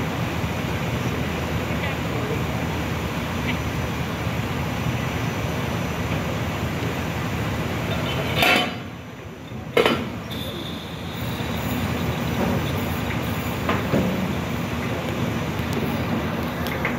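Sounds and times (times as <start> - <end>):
ship deck rumbling: 0.0 - 16.9.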